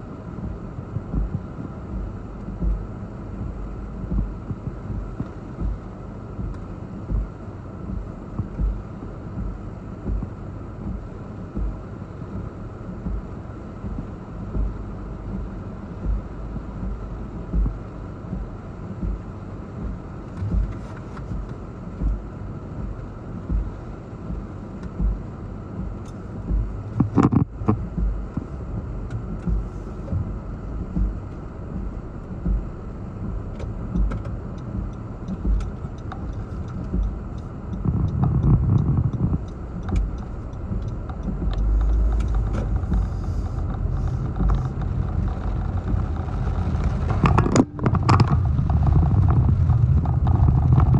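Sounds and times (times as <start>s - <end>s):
wind gusting over microphone: 0.0s - 50.9s.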